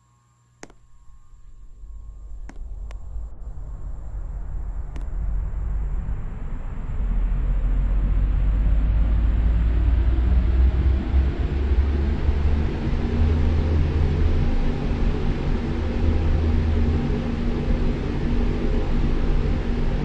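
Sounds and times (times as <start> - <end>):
fan running with low hum: 0.0 - 20.0.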